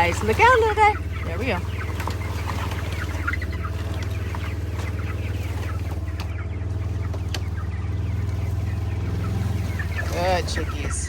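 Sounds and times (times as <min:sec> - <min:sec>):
chicks peeping: 0:00.0 - 0:11.0
vehicle engine hum: 0:00.0 - 0:11.0.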